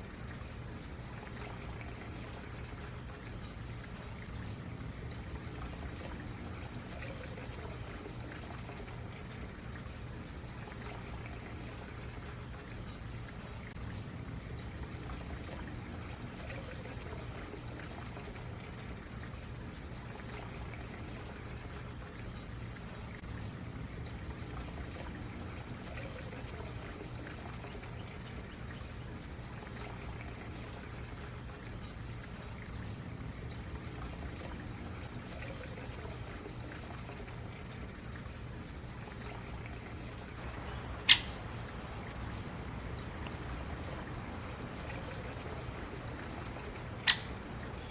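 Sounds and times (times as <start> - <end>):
stream trickling: 0.0 - 47.9.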